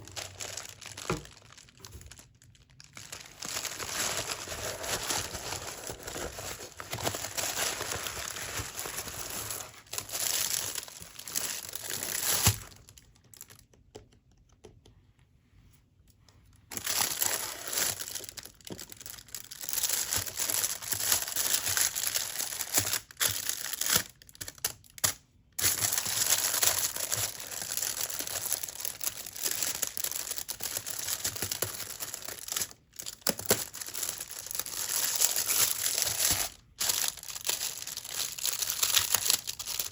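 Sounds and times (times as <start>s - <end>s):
packaging crinkling and tearing: 0.0s - 13.6s, 16.7s - 39.9s.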